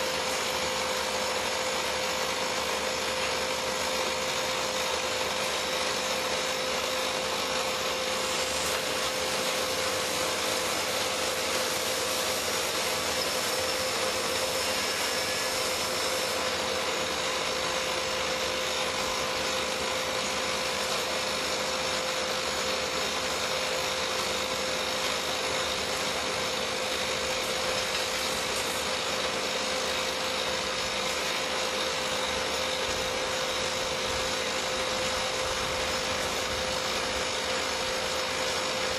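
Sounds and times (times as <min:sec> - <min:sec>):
drill rig running: 0:00.0 - 0:38.9
steady machine whine: 0:00.0 - 0:38.9.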